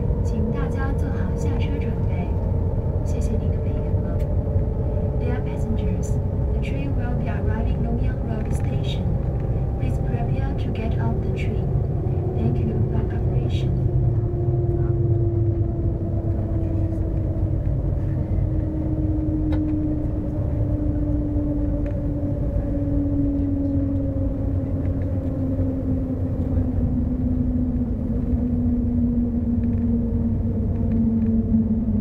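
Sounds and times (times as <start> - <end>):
falling whine: 0.0 - 32.0
train cabin low rumble: 0.0 - 32.0.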